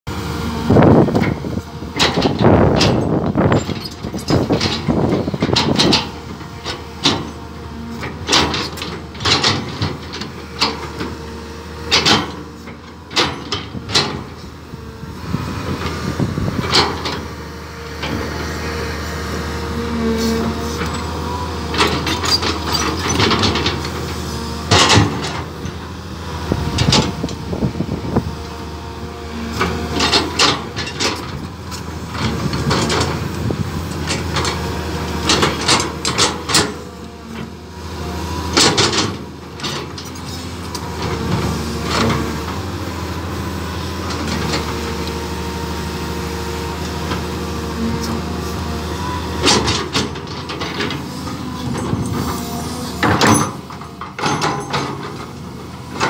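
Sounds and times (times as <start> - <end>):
excavator diesel engine running: 0.1 - 56.0.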